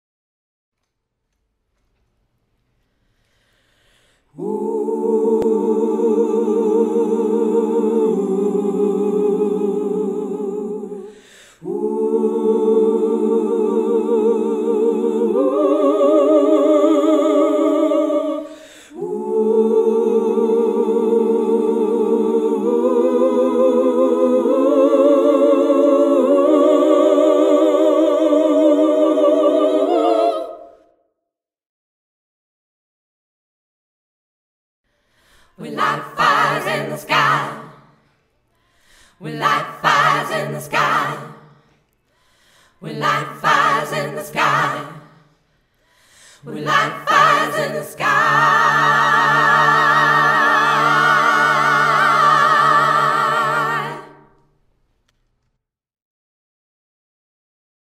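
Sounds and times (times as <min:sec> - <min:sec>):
gospel choir vocals: 0:03.3 - 0:31.0, 0:35.0 - 0:54.6.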